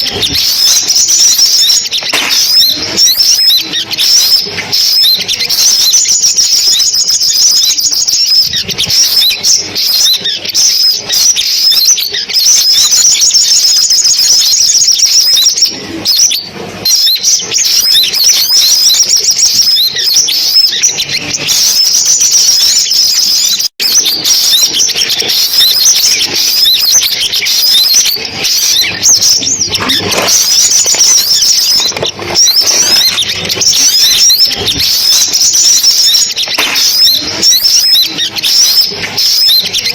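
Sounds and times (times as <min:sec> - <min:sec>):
sunbirds singing: 0:00.0 - 0:39.9.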